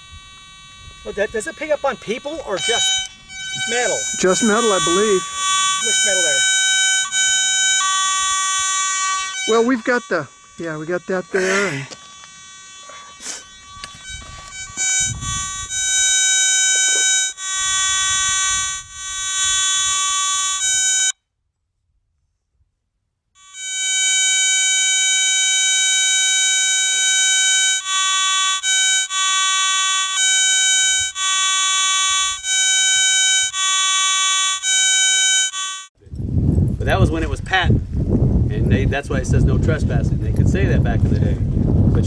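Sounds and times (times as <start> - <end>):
metal detector buzzy tone: 0.0 - 21.2, 23.4 - 35.9.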